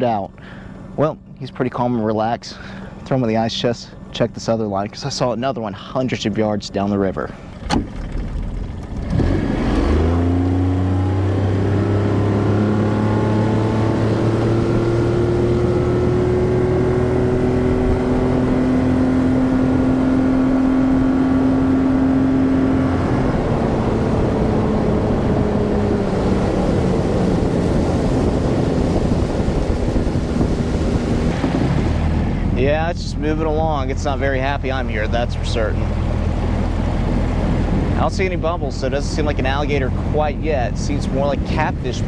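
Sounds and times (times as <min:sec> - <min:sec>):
outboard motor running: 0:00.0 - 0:42.0.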